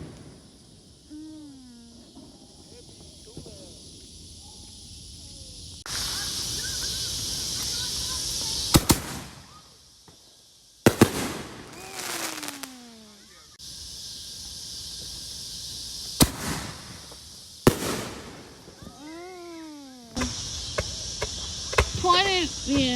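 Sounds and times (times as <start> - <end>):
fireworks bangs: 0.0 - 22.9.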